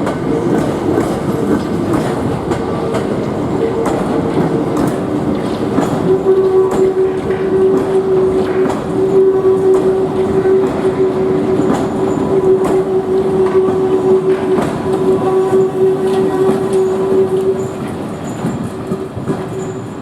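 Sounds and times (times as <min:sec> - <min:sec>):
train wheels clicking over rail joints: 0:00.0 - 0:20.0.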